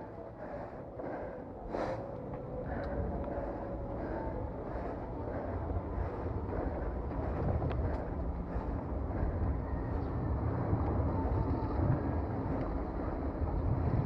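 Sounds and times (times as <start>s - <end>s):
wind over microphone: 0.0s - 14.0s
bike tyres rolling on dirt trail: 2.4s - 14.0s.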